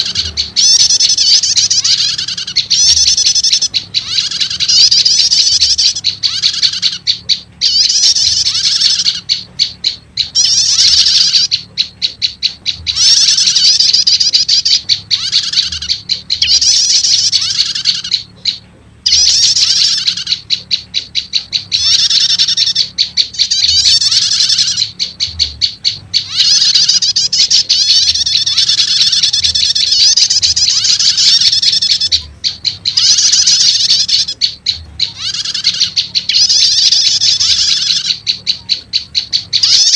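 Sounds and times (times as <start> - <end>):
bird chattering trills: 0.0 - 39.9
bird rapid ticking: 0.0 - 39.9.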